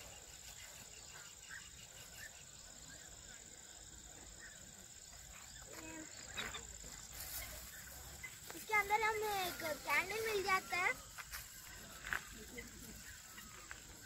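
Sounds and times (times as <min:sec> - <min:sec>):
insects chirring: 0:00.0 - 0:14.0
faint distant voices: 0:01.1 - 0:14.0.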